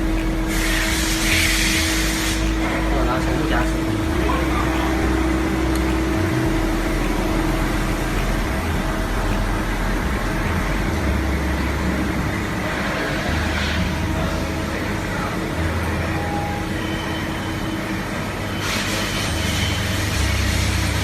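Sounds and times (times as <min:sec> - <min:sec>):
lathe mechanical drone: 0:00.0 - 0:21.0.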